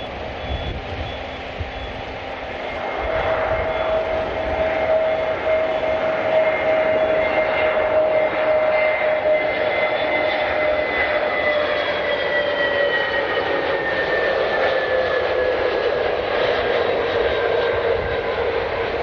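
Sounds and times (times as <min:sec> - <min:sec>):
jet engines passing with whine: 0:00.0 - 0:19.0.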